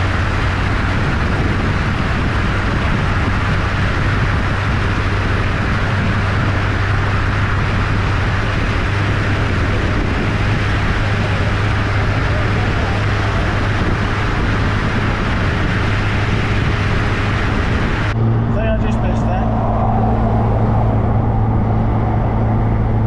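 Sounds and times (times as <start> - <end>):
car engine droning: 0.0 - 23.0
road noise: 0.0 - 23.0
wind noise: 0.0 - 23.0.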